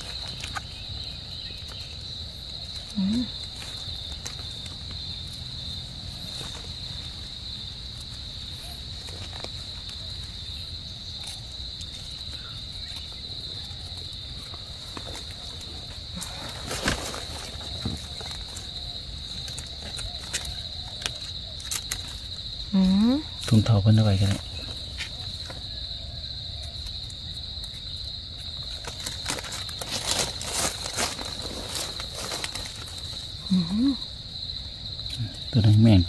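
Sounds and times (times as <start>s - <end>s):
night insects chorus: 0.0s - 36.0s
rustling leaf litter and soil: 0.0s - 36.0s.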